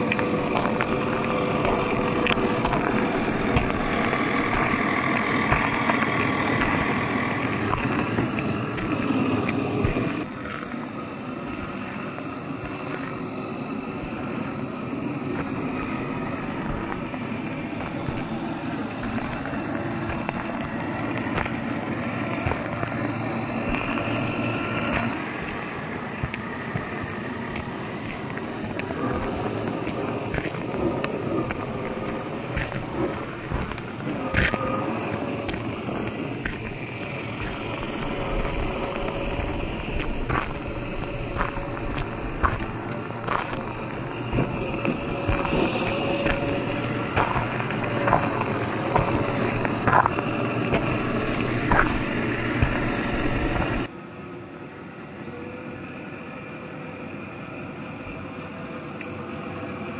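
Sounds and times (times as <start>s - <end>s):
tyres crunching on gravel: 0.0s - 53.9s
electric motor whine: 0.0s - 59.9s.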